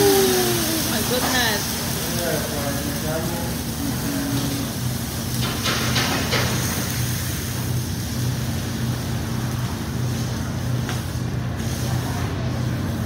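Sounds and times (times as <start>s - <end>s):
exhaust hood hum: 0.0s - 13.0s
hot griddle sizzling: 0.0s - 13.0s.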